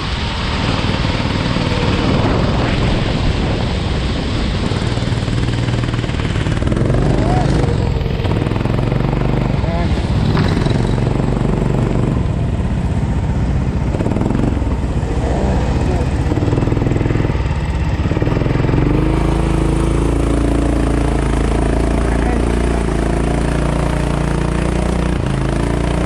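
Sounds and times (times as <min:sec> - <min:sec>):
kart engine running: 0:00.0 - 0:26.0.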